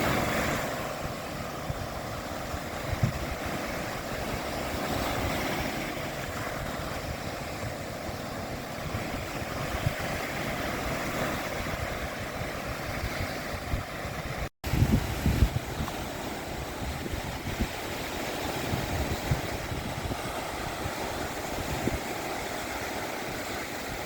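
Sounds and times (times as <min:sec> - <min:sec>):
surf washing onto shore: 0:00.0 - 0:24.0
wind buffeting microphone: 0:00.0 - 0:24.0.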